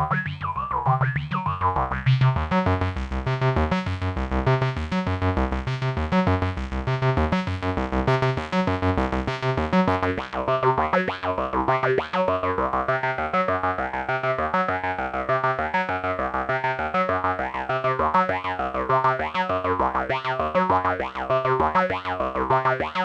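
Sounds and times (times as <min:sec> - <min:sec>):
pulsing synth bass line: 0:00.0 - 0:23.0
synthesizer sequenced notes: 0:00.0 - 0:23.0.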